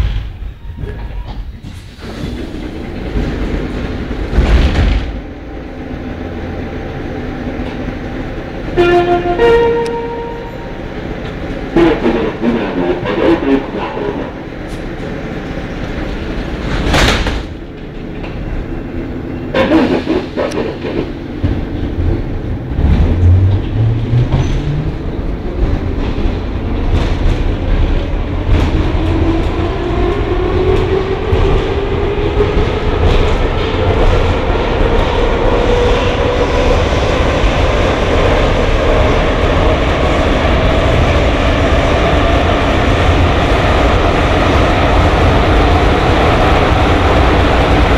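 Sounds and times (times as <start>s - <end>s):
train doors shutting: 0.0s - 47.9s
wheels rumbling on track: 0.0s - 47.9s.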